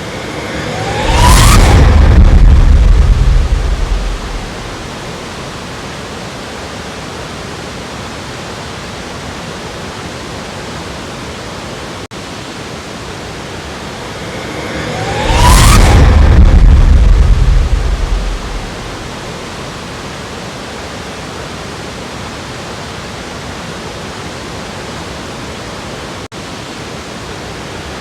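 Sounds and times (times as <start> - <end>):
waterfall roaring: 0.0 - 15.2, 16.0 - 28.0.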